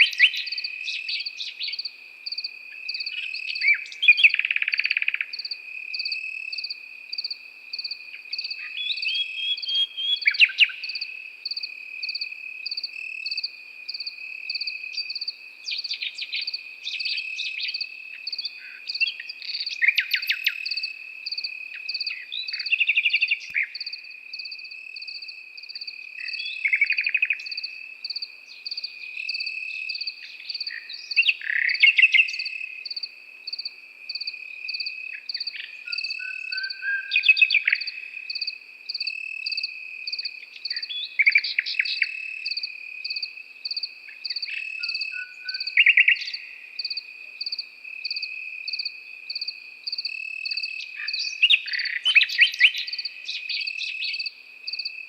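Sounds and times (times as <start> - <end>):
crickets chirring: 0.0 - 55.0
nightingale singing: 0.0 - 55.0.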